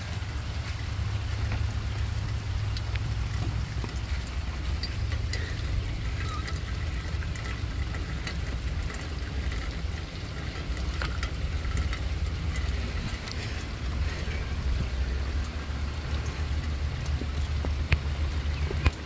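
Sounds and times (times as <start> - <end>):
drops ticking: 0.0 - 19.0
rain falling: 0.0 - 19.0
steady low rumble: 0.0 - 19.0.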